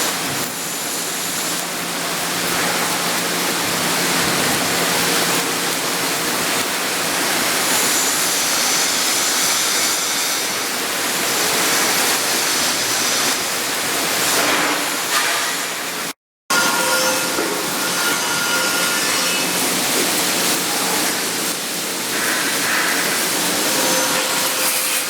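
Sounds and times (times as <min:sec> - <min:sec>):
welding arc hissing crackle: 0:00.0 - 0:16.6, 0:19.4 - 0:25.0.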